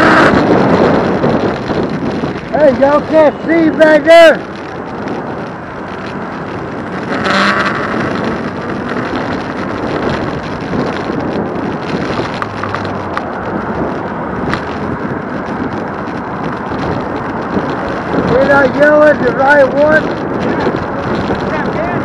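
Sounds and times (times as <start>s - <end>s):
road noise: 0.0s - 22.0s
wind rushing over microphone: 0.0s - 22.0s.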